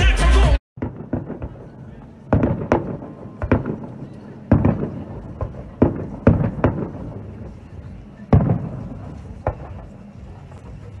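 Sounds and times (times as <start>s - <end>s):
fireworks banging: 0.8s - 11.0s.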